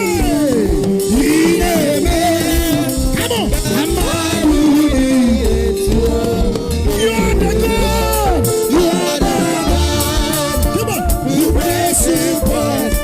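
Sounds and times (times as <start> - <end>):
live gospel band music: 0.0 - 13.0.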